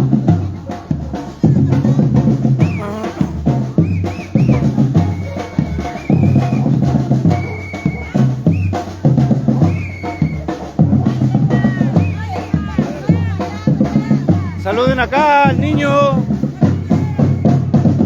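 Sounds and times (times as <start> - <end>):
samba drumming: 0.0 - 18.0.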